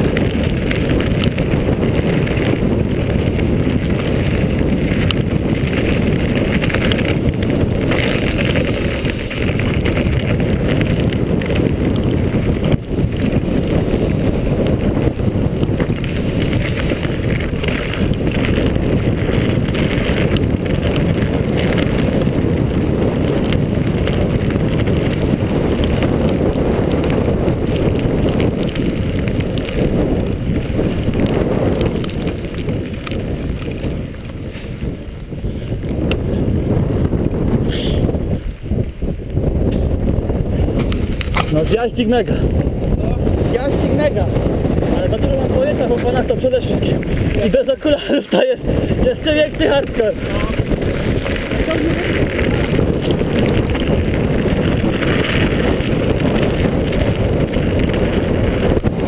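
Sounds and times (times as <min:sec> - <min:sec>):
tyres rumbling on dirt trail: 0:00.0 - 0:59.0
wind buffeting microphone: 0:00.0 - 0:59.0.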